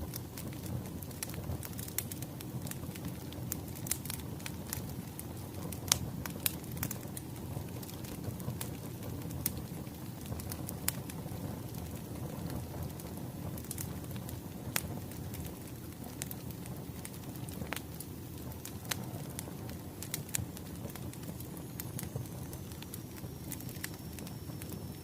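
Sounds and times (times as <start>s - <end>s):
firewood crackling and popping: 0.0s - 25.0s
low rumble of flames: 0.0s - 25.0s.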